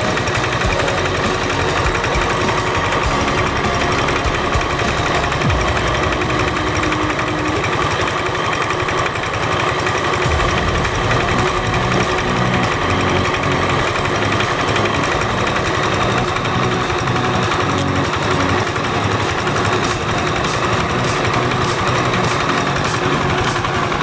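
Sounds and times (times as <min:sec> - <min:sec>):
diesel water pump knocking: 0:00.0 - 0:24.0.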